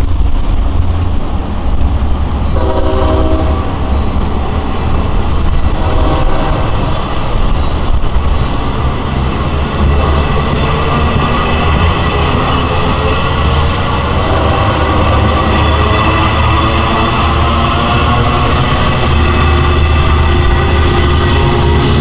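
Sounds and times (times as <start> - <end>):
diesel locomotive droning: 0.0 - 22.0.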